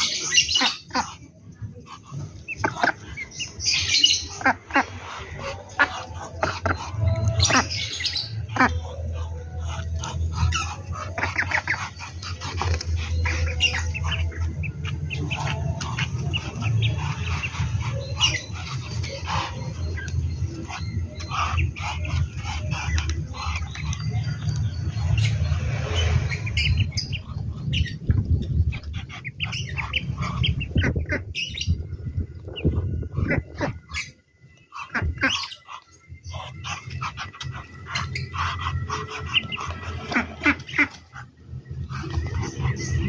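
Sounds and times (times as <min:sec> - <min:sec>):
ducklings peeping: 0:00.0 - 0:43.0
low rumble: 0:01.5 - 0:43.0.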